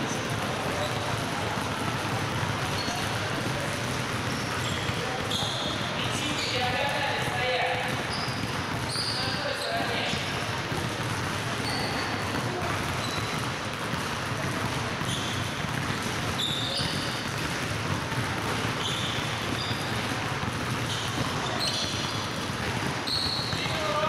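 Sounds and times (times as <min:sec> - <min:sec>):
basketballs bouncing on wood floor: 0:00.0 - 0:24.0
sneaker squeaks: 0:00.0 - 0:24.0.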